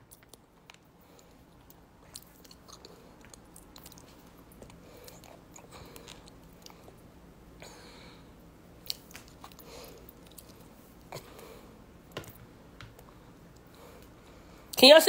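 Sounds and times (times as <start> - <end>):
person chewing: 0.0 - 7.8, 8.8 - 14.2.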